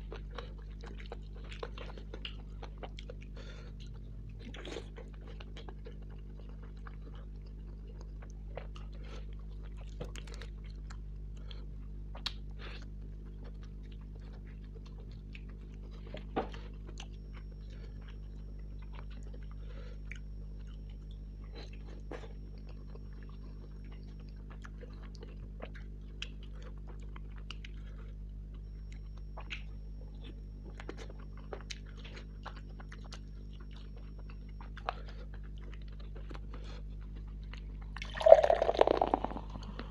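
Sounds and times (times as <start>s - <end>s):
chewing and biting meat: 0.0s - 39.9s
steady low hum: 0.0s - 39.9s.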